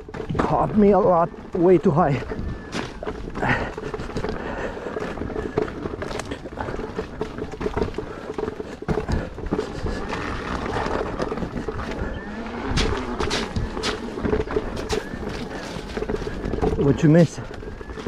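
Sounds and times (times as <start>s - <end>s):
electric unicycle rumbling: 0.0s - 18.0s
knocks and rattles: 0.0s - 18.0s.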